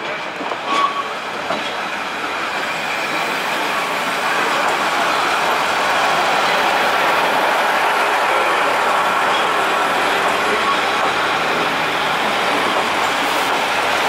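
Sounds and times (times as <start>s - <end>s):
train wheels clacking: 0.0s - 14.0s.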